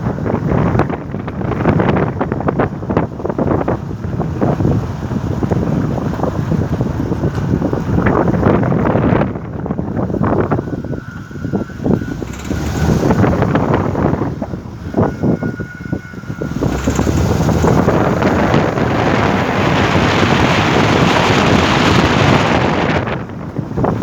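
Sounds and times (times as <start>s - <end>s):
loud steady rushing noise: 0.0s - 24.0s.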